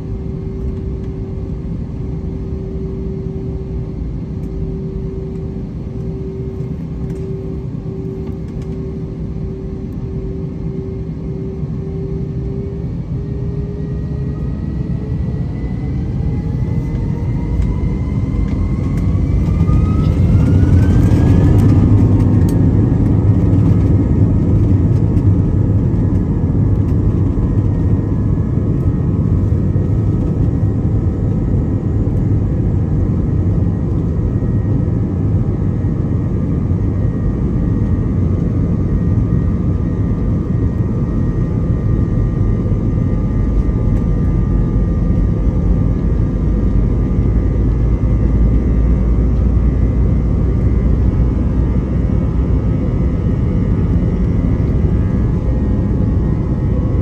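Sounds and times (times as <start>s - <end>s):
jet engine drone and rumble: 0.0s - 57.0s
jet engines whining: 0.0s - 57.0s.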